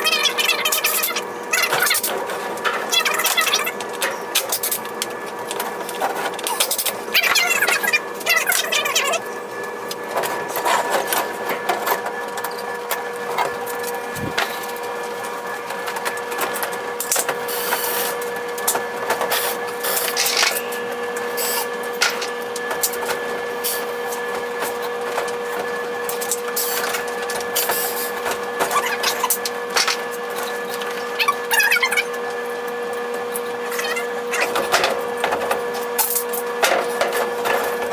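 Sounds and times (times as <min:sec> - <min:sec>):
steady mechanical hum: 0:00.0 - 0:37.9.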